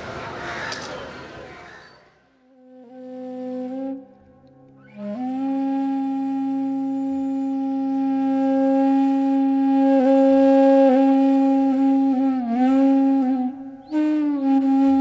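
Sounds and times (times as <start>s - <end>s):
flute-like wind instrument note: 2.5s - 15.0s.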